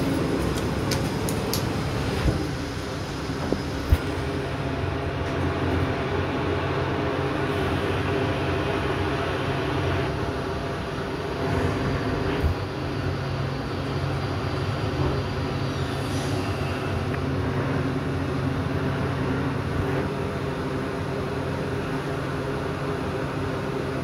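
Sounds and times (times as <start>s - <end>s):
elevator car humming and rumbling: 0.0s - 24.0s.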